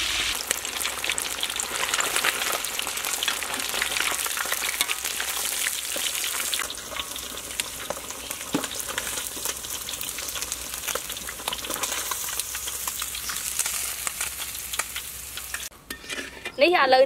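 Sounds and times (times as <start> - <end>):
fish deep-frying in hot oil: 0.0 - 15.7.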